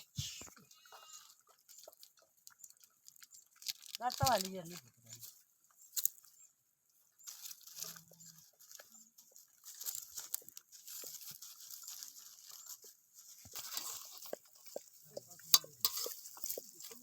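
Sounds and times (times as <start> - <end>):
puppies chewing food: 0.5 - 17.0.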